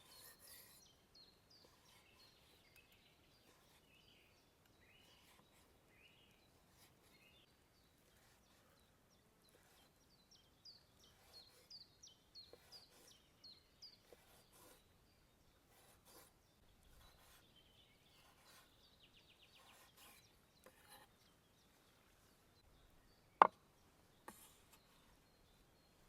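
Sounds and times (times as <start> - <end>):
bird chirping: 0.0 - 26.0
birdsong: 0.0 - 26.0.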